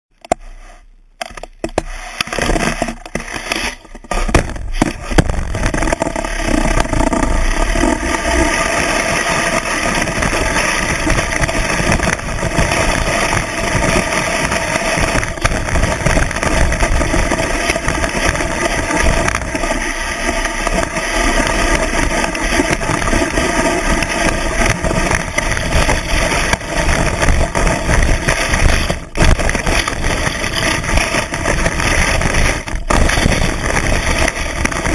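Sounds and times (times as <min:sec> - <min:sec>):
skis rushing through snow: 0:01.8 - 0:34.9.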